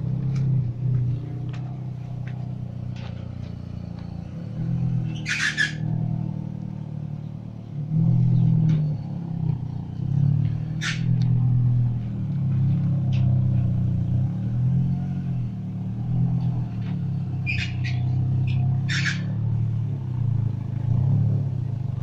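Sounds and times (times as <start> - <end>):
car engine low hum: 0.0 - 22.0.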